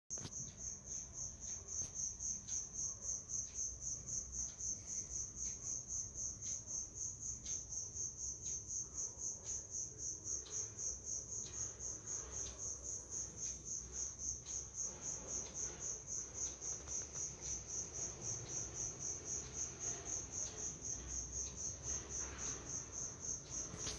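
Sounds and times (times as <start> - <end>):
cricket chirping: 0.1 - 23.9.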